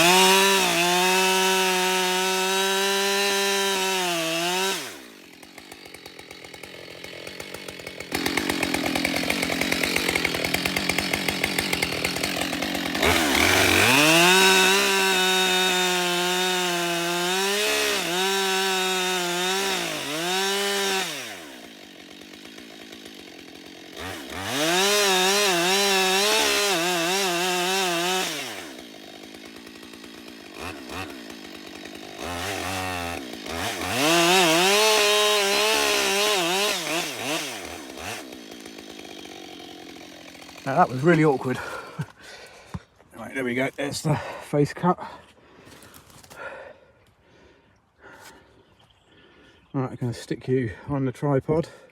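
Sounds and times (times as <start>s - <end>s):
chainsaw cutting tree: 0.0s - 49.4s
chainsaw idling: 0.0s - 51.9s.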